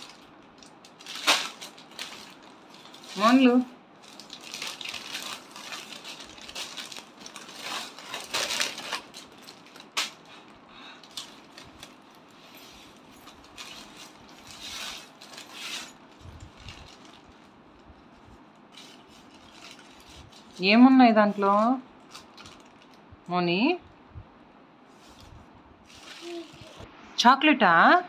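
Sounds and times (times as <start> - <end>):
plastic bags crinkling: 0.0 - 23.0, 25.9 - 26.8.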